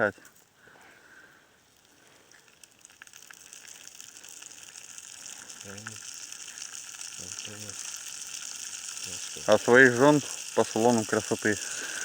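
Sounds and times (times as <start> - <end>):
sausages sizzling in oil: 1.6 - 12.0.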